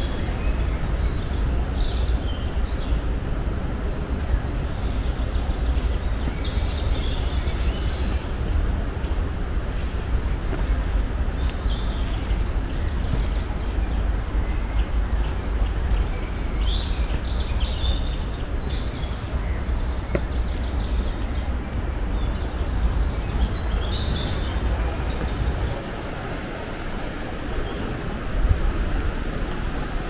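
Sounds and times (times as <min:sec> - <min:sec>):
small birds chirping: 0:00.0 - 0:28.3.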